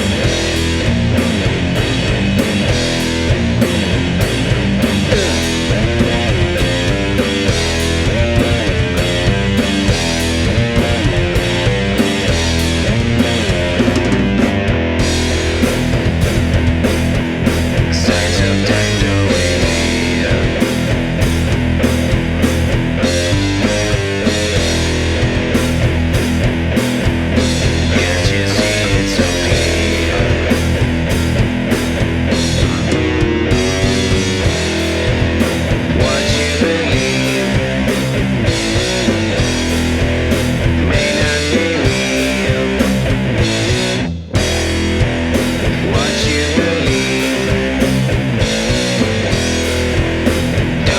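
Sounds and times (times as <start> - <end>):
doom metal band playing: 0.0 - 50.9.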